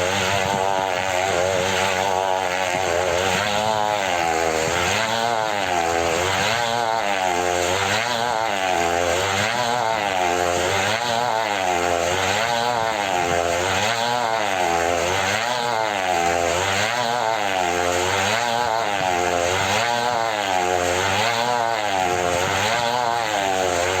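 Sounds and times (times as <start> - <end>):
two-stroke engine running: 0.0 - 24.0.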